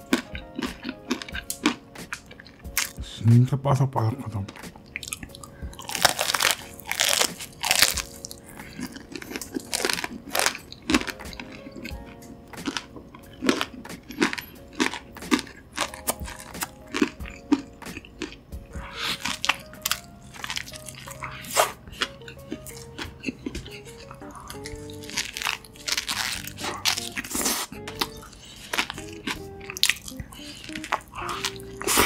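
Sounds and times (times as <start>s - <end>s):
crunchy biting and chewing: 0.0s - 3.1s, 4.5s - 32.0s
soft background music: 0.0s - 32.0s.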